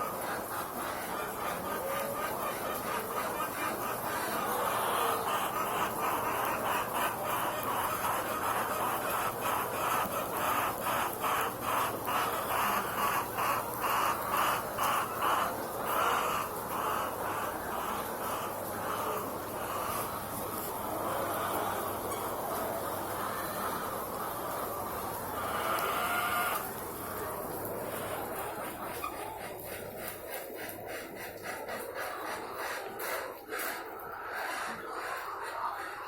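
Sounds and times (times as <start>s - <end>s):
flock of chickens clucking: 0.0s - 36.0s.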